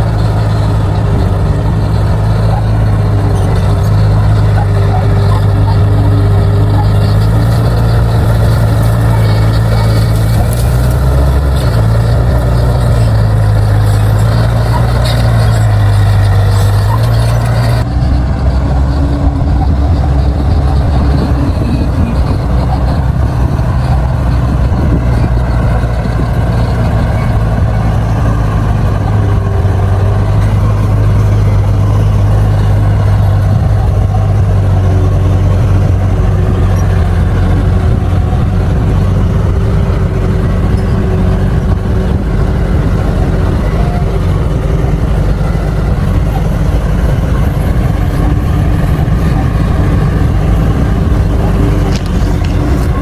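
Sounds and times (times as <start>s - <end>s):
bulldozer diesel engine drone: 0.0s - 53.0s.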